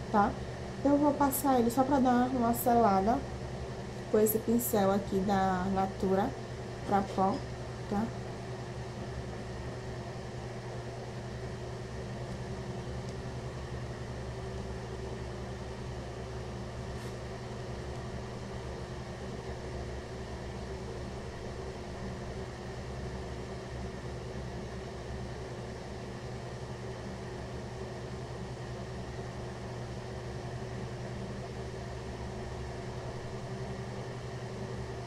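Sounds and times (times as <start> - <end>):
appliance machine hum: 0.0 - 35.0.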